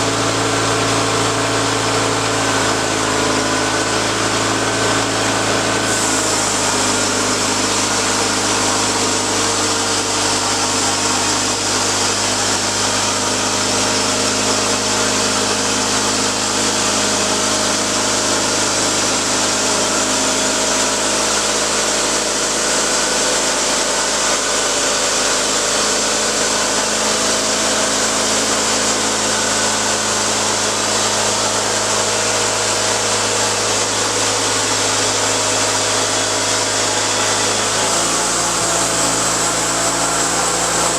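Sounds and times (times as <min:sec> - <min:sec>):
saw blade cutting wood: 0:00.0 - 0:40.9
sawmill engine running: 0:00.0 - 0:40.9.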